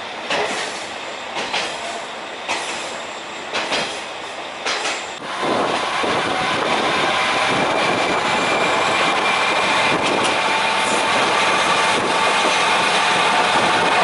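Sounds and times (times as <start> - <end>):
wheel and rail noise: 0.0 - 14.0.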